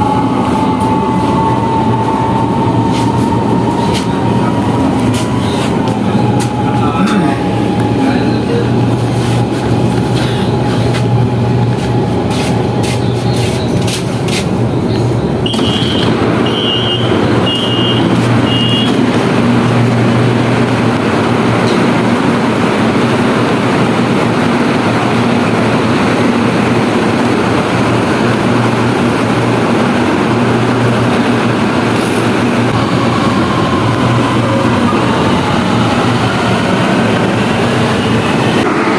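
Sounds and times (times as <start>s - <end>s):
train running rumble and hum: 0.0s - 38.9s.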